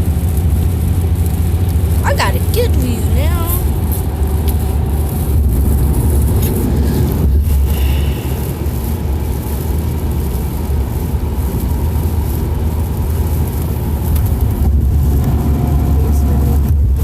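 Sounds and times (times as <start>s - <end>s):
car road noise in rain: 0.0s - 17.0s
tyres hissing on wet road: 0.0s - 17.0s.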